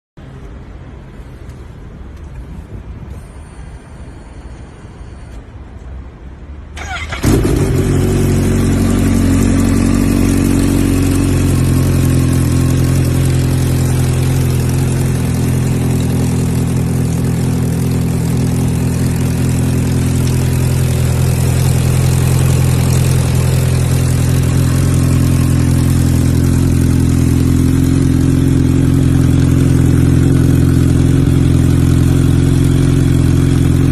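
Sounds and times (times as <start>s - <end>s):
motorcycle engine starting and idling: 6.7s - 33.9s.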